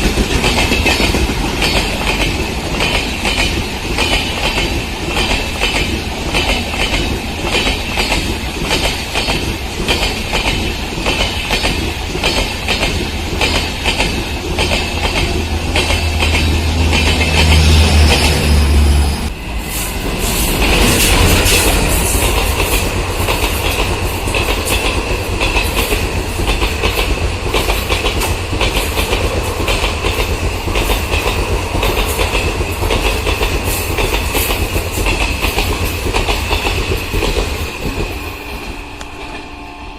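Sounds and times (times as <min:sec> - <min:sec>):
train wheels clattering over rail joints: 0:00.0 - 0:18.5, 0:20.0 - 0:39.4
high ringing of wheel and rail: 0:00.0 - 0:39.9.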